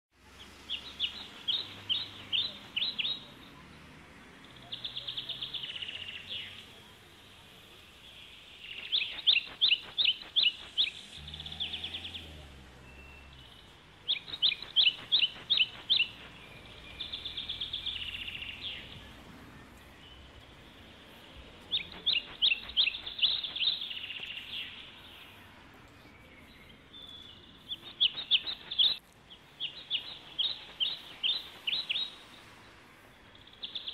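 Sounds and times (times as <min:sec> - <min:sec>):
songbird singing: 0:00.2 - 0:33.9.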